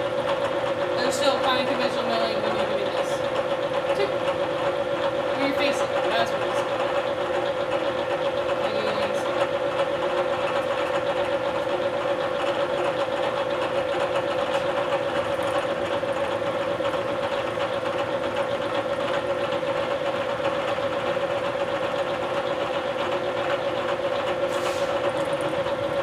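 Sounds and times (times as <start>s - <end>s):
milling machine cutting metal: 0.0s - 26.0s.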